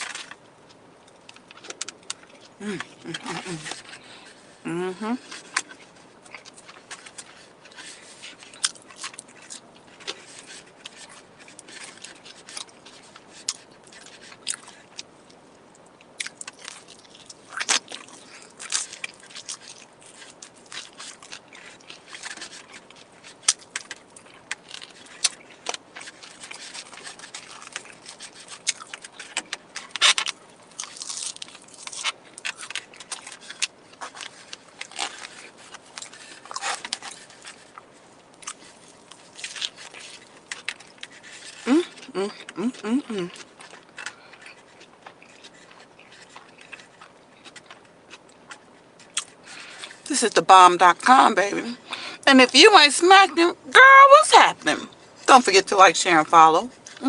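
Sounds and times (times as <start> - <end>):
person chewing and crunching: 0.0 - 50.4.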